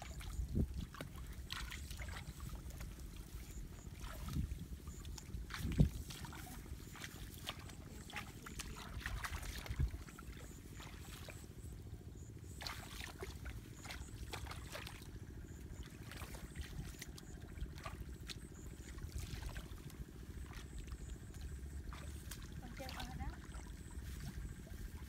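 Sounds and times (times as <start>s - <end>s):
feet splashing through water: 0.0s - 25.0s.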